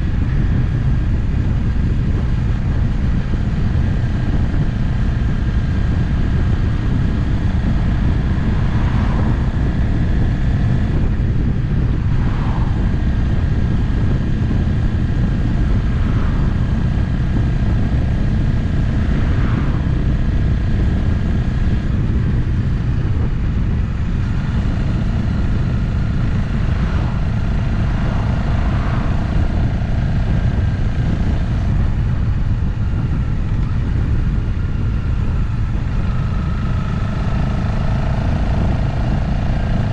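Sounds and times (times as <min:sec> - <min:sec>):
faint steady whine: 0:00.0 - 0:39.9
motorcycle engine cruising: 0:00.0 - 0:39.9
wind and road noise: 0:00.0 - 0:39.9.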